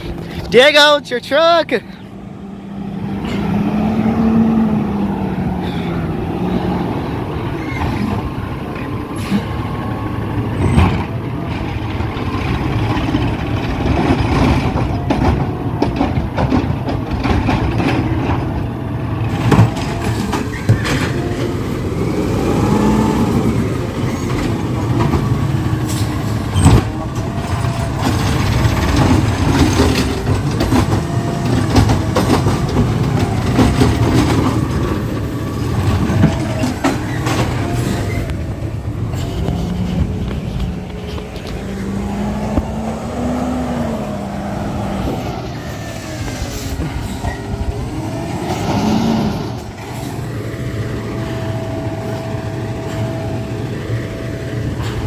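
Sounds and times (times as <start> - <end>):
garbage truck engine running: 0.0 - 55.0.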